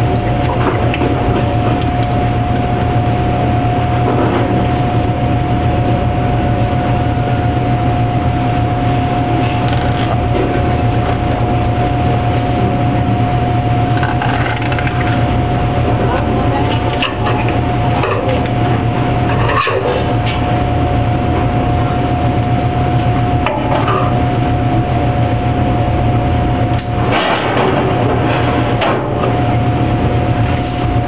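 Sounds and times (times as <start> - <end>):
kitchen machinery droning: 0.0 - 31.0.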